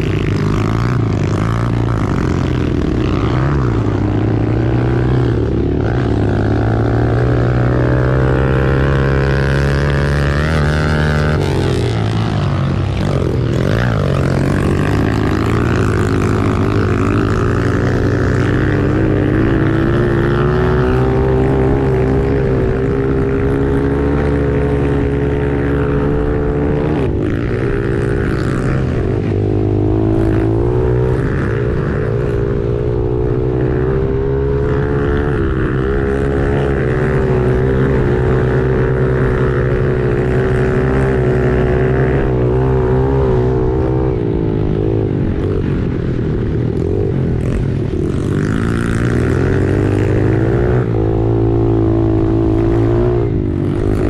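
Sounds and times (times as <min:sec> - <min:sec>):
pit bike engine running: 0:00.0 - 0:54.0.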